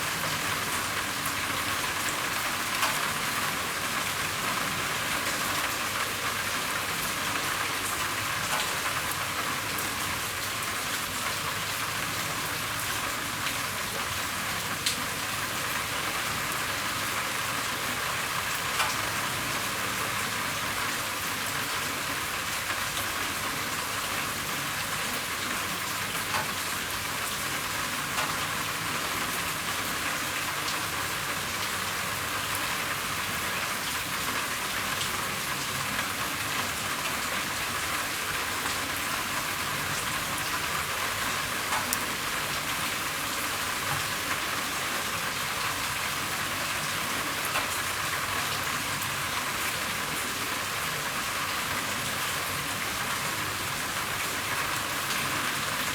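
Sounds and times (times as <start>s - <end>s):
rain on a roof: 0.0s - 55.9s.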